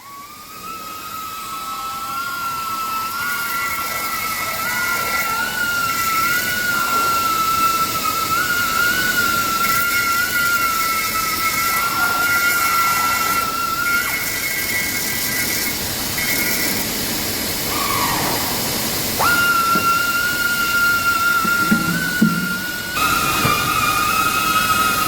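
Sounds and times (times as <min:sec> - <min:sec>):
belt grinder whining: 0:00.5 - 0:17.7, 0:18.7 - 0:25.0.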